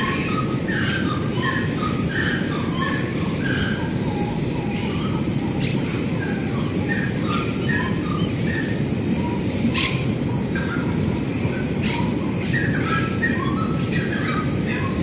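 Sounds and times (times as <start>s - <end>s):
steady low rumble: 0.0s - 13.0s
bird chirping: 0.0s - 15.0s.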